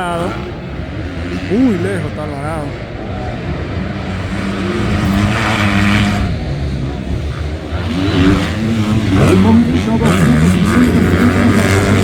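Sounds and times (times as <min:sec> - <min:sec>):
dirt bike engines: 0:00.0 - 0:12.0.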